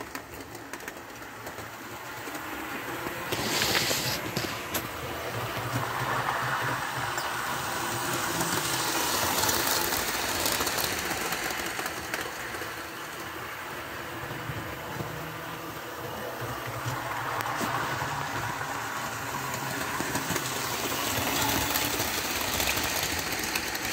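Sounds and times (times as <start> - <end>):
model train motor hum: 3.2 - 23.9.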